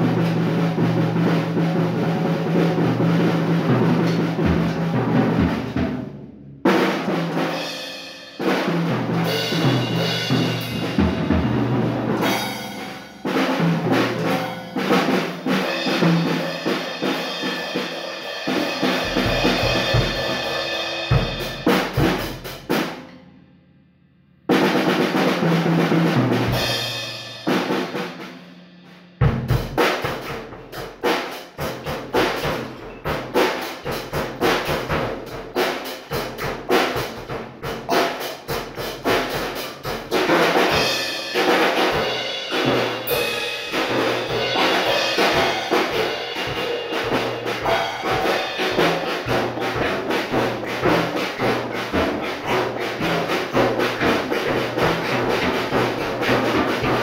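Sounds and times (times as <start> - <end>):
drum kit playing: 0.0 - 23.5, 24.4 - 57.0.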